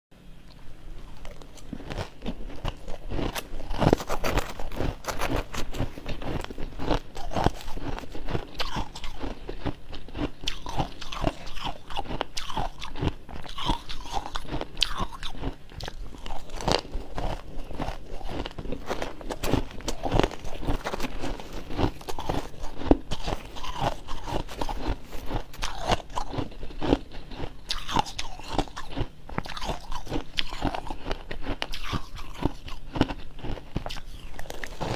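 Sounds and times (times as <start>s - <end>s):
crunching and chewing frost: 0.5s - 34.9s.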